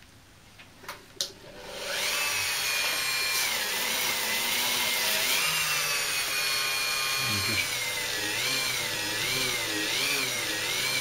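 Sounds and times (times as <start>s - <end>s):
rotary tool whining: 1.5s - 11.0s.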